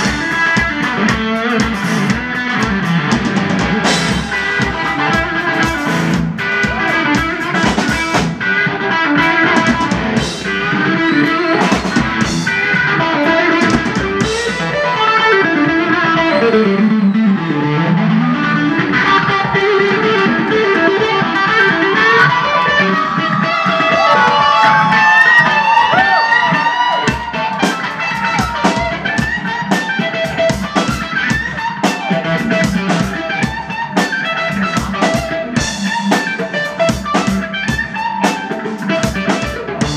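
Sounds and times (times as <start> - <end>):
drum kit playing: 0.0 - 39.9
electric guitar lead: 0.0 - 39.9.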